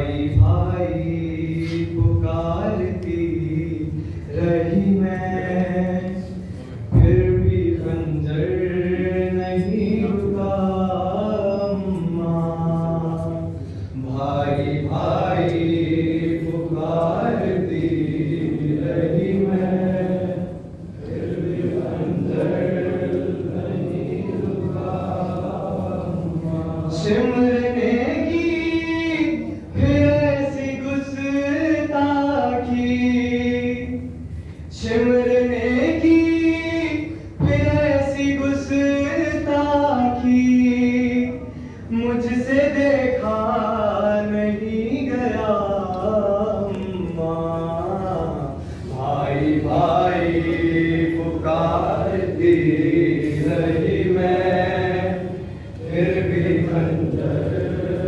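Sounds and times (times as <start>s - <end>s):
voices chanting a lament: 0.0s - 34.2s, 34.8s - 58.0s.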